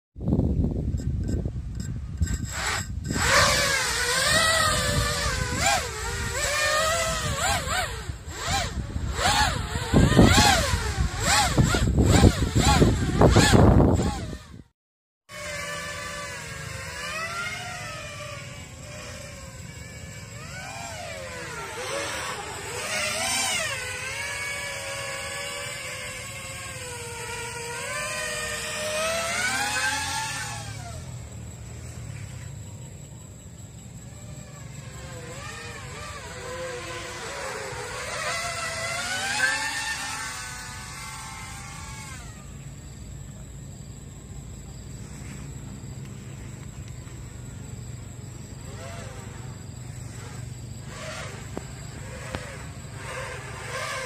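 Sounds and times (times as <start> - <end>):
quadcopter motors and propellers whining: 0.2 - 14.7, 15.3 - 54.0.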